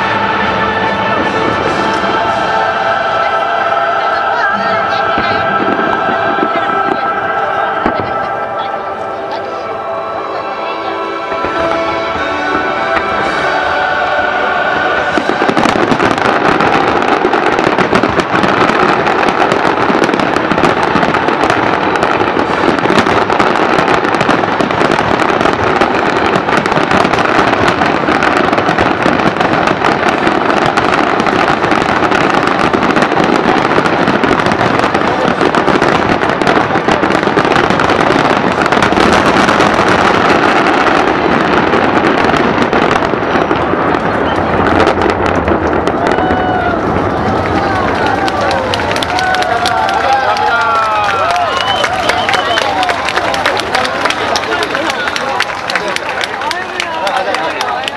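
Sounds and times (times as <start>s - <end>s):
fireworks crackling and booming: 0.0s - 57.9s.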